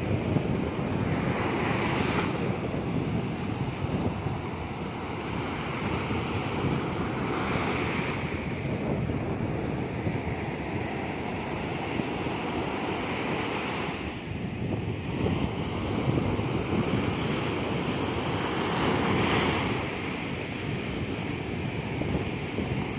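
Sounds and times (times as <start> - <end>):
small waves washing up a beach: 0.0 - 22.9
wind buffeting microphone: 0.0 - 22.9.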